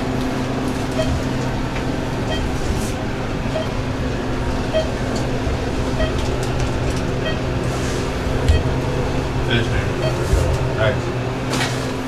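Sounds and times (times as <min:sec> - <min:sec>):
luggage cart wheels rumbling: 0:00.0 - 0:12.0.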